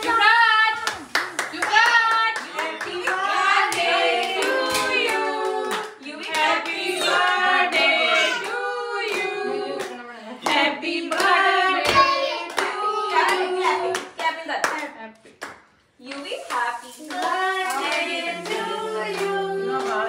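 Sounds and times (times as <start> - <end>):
group of people singing: 0.0 - 0.8, 1.4 - 14.2, 16.4 - 20.0
hands clapping a steady beat: 0.7 - 20.0.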